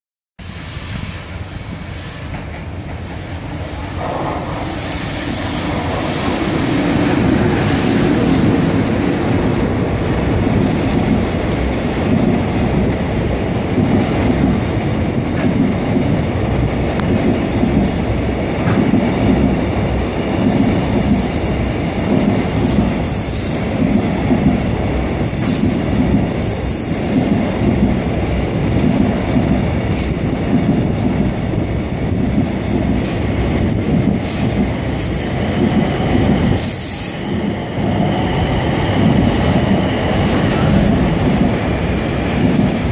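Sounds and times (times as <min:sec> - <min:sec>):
freight train passing: 0:00.4 - 0:42.9.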